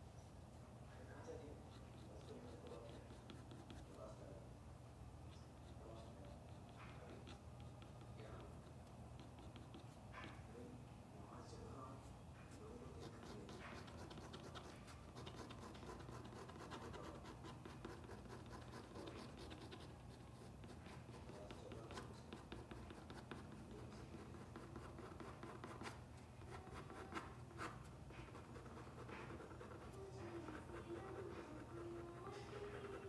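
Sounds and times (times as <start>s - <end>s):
low steady hum: 0.0s - 33.0s
pen scratching on paper: 1.5s - 4.1s, 5.4s - 10.4s, 12.9s - 33.0s.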